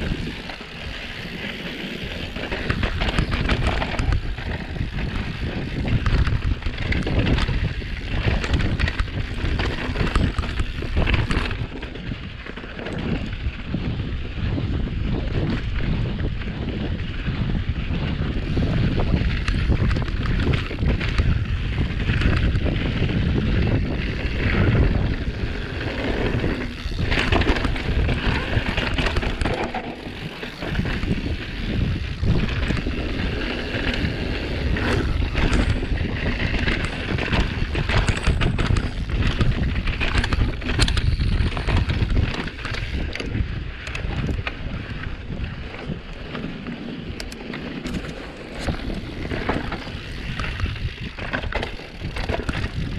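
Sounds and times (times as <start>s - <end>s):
tyres rolling on loose dirt: 0.0s - 13.5s, 18.1s - 52.9s
bike rattling over bumps: 0.0s - 52.9s
wind buffeting microphone: 0.0s - 52.9s.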